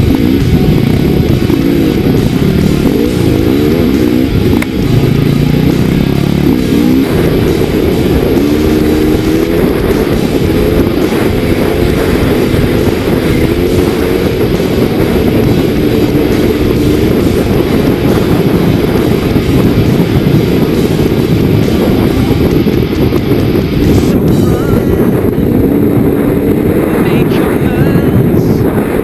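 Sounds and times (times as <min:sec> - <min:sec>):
dirt bike engine revving: 0:00.0 - 0:29.0
wind on microphone: 0:00.0 - 0:29.0.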